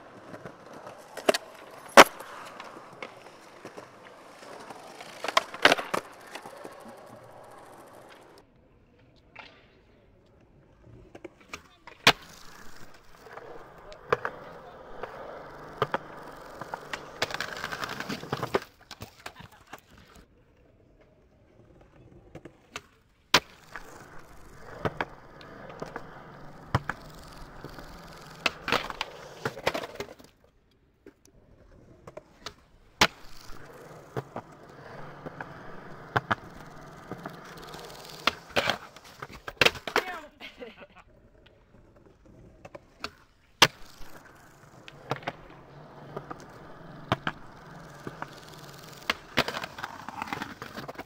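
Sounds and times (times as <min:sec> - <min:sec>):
sharp skateboard clicks: 0:00.0 - 0:08.4, 0:09.0 - 0:20.2, 0:21.6 - 0:40.3, 0:41.1 - 0:51.0
skateboard wheels rolling on pavement: 0:00.0 - 0:51.0.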